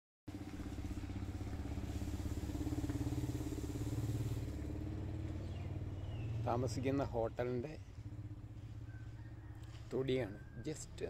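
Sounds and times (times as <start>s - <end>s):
small engine idling: 0.3s - 11.0s.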